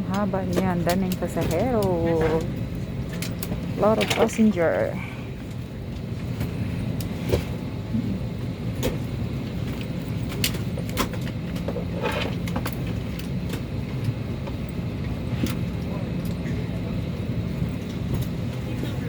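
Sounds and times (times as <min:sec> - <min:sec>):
air ventilation running: 0:00.0 - 0:19.0
airliner cabin hum: 0:00.0 - 0:19.0.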